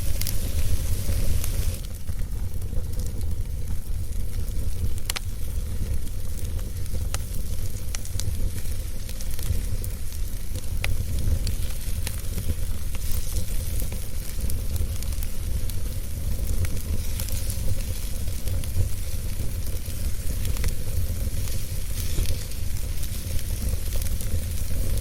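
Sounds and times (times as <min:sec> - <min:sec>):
fire hissing: 0:00.0 - 0:25.0
fire popping and snapping: 0:00.0 - 0:25.0
wood fire crackling: 0:00.0 - 0:25.0.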